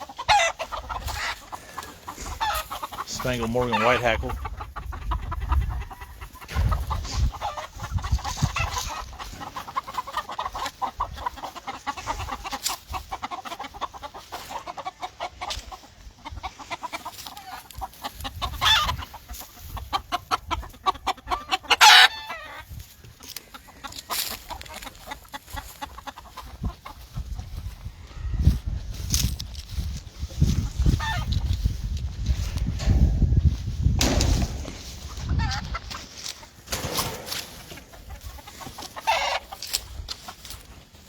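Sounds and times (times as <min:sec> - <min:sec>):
chickens clucking: 0:00.0 - 0:41.0.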